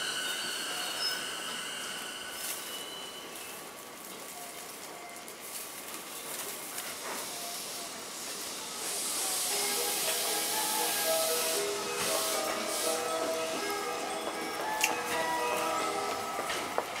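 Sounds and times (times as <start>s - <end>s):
train air hiss: 0.0s - 3.7s, 6.6s - 16.8s.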